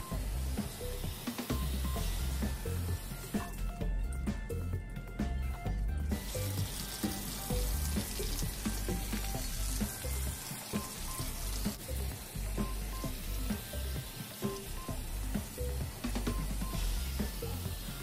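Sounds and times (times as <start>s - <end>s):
background music with beat: 0.0s - 18.0s.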